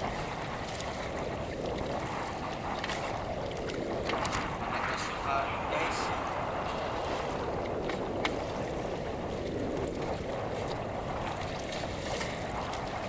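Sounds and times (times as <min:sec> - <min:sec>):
waves against wooden boat: 0:00.0 - 0:13.0
wind rushing on microphone: 0:00.0 - 0:13.0.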